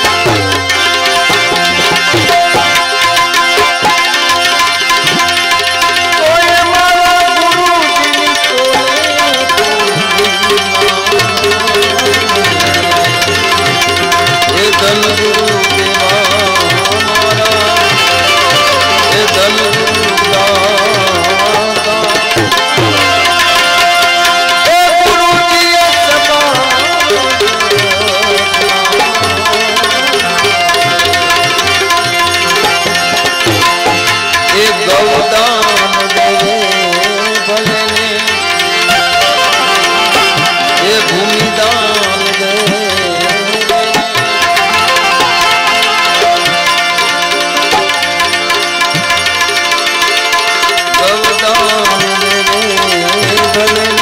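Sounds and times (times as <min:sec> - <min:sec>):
sustained instrumental melody: 0:00.0 - 0:54.0
tabla rhythm: 0:00.0 - 0:54.0.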